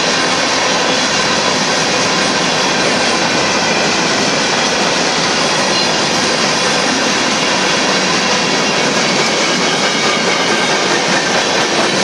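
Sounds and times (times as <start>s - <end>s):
steel wheels on rail: 0.0s - 12.0s.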